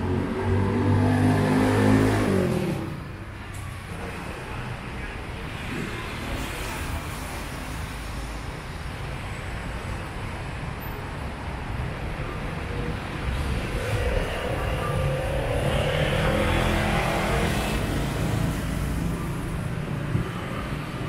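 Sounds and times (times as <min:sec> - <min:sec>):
rumble of passing vehicles: 0:00.0 - 0:21.0.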